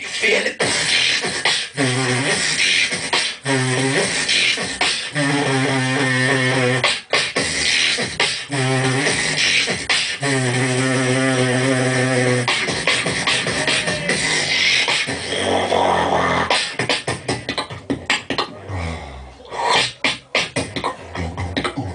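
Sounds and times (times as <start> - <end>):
beatboxing into a microphone: 0.0 - 21.9.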